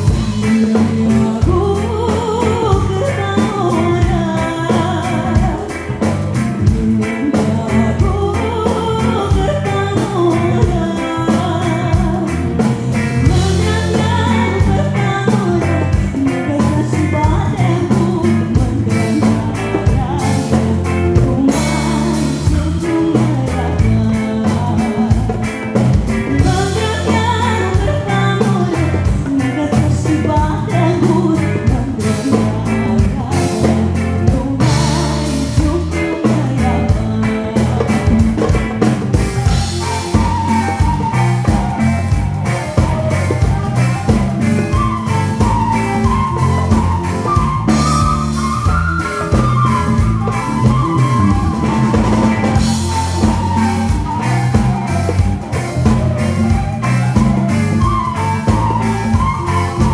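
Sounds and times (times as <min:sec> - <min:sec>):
electric bass: 0:00.0 - 0:59.9
electric guitar: 0:00.0 - 0:59.9
steady drum beat: 0:00.0 - 0:59.9
woman singing into a microphone: 0:00.0 - 0:59.9.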